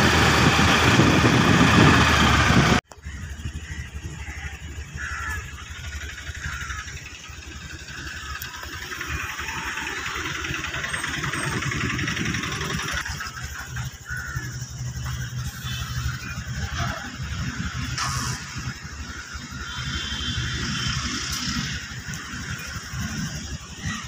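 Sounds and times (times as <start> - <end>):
outdoor background noise: 0.0 - 24.0
vehicle engine rumbling: 0.0 - 24.0.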